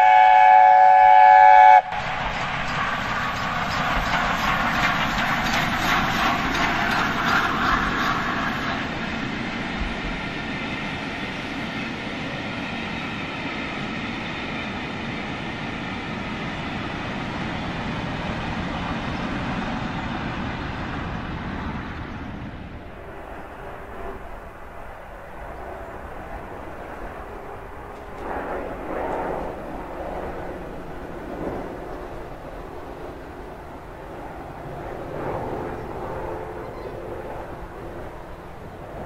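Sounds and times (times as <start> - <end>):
steam locomotive passing: 0.0 - 39.0
train wheels rolling on rails: 1.8 - 39.0.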